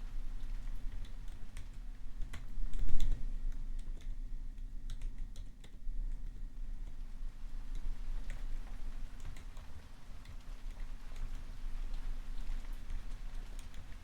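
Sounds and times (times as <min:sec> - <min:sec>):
rain: 0:00.0 - 0:14.0.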